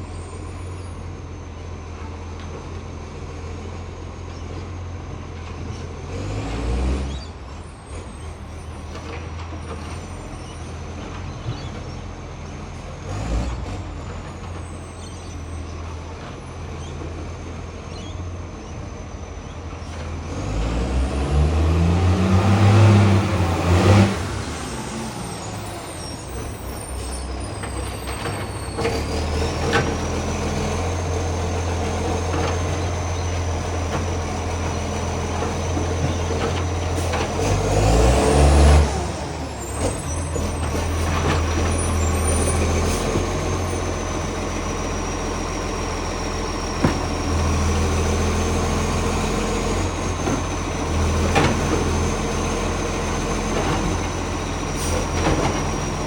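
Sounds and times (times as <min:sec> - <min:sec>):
loud diesel truck engine revving: 0:05.6 - 0:56.0.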